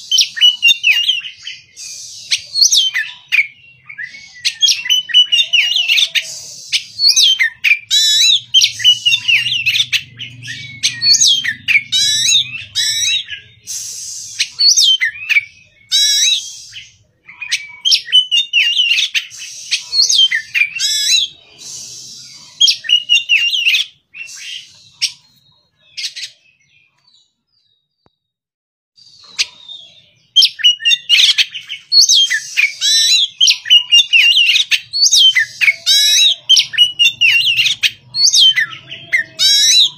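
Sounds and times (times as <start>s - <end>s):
bird singing: 0.0s - 28.3s, 29.0s - 39.9s.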